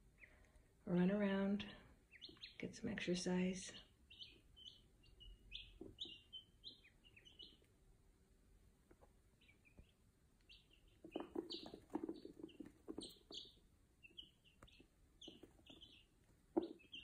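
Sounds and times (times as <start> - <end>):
chicks and ducklings peeping: 1.6 - 7.8, 8.8 - 17.0.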